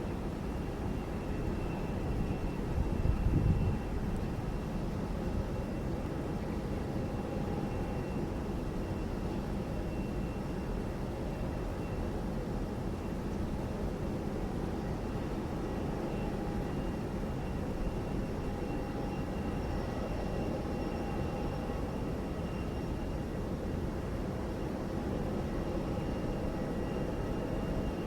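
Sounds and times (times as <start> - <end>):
faint high whine: 0.0 - 28.0.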